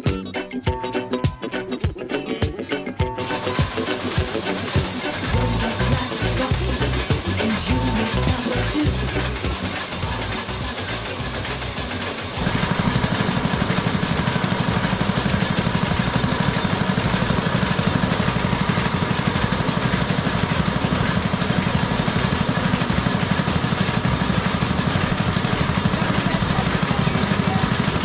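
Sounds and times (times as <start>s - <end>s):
engine running with rapid pulse: 3.0s - 28.0s.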